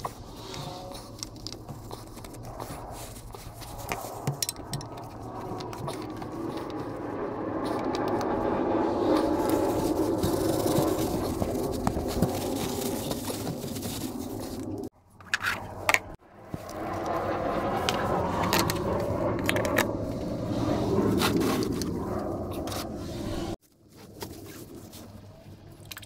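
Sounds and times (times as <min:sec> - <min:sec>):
clicks and scrapes of engine parts: 0:00.0 - 0:08.4, 0:09.1 - 0:23.0.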